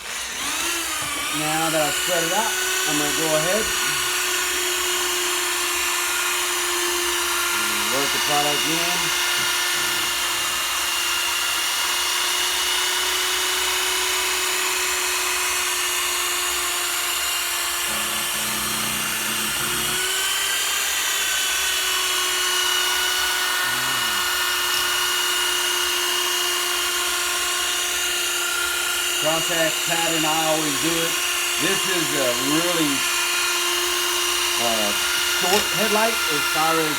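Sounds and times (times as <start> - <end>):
polishing tool whining: 0.0 - 36.9.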